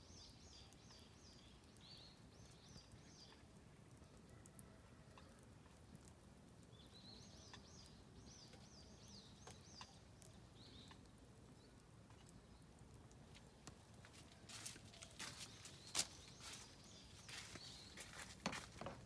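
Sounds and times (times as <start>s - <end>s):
songbird chirping: 0.0s - 19.0s
campfire crackling: 0.2s - 4.6s, 5.2s - 19.0s.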